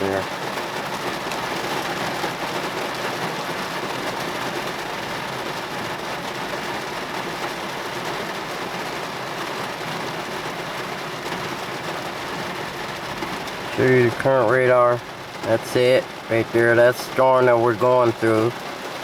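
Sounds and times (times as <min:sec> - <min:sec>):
heavy rain on car roof: 0:00.0 - 0:19.0.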